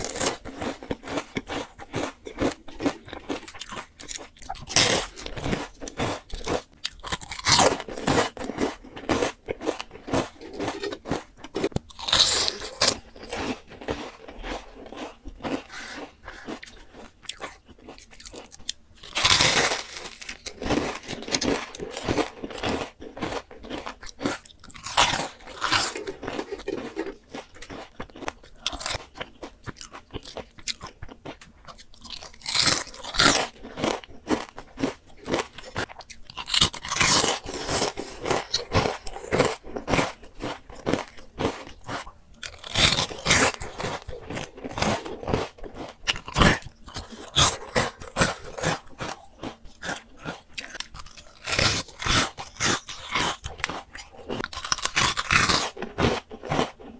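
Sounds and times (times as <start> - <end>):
chewing crackly food: 0.0 - 56.9
crunching bites of fried chicken: 0.0 - 56.9.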